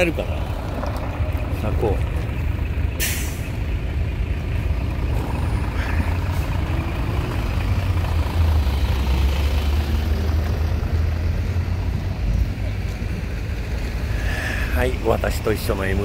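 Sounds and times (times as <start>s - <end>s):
truck diesel engine rumble: 0.0s - 16.0s.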